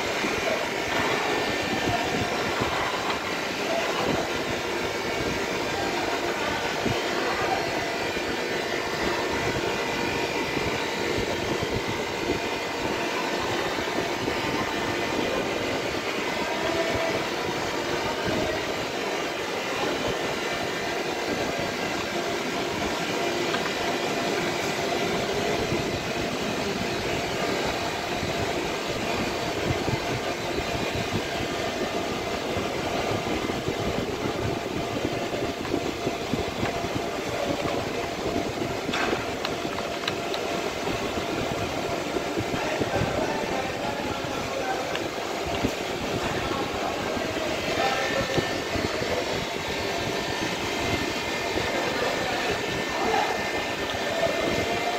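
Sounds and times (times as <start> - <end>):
workshop machinery humming: 0.0 - 54.9.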